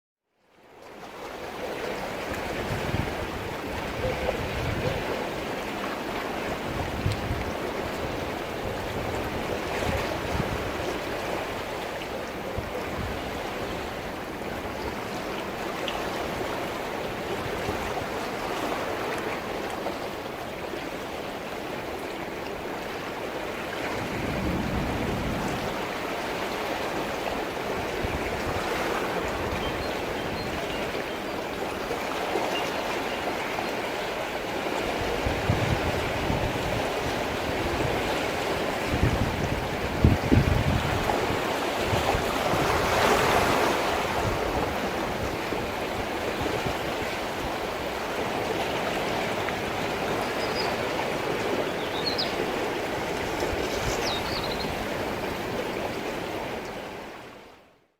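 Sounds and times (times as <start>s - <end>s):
ocean waves breaking: 1.0s - 57.6s.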